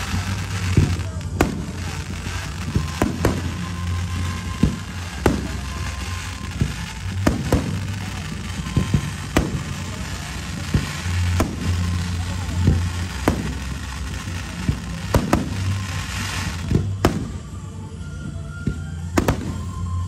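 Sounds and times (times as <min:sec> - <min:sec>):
firework shells bursting: 0:00.0 - 0:17.5.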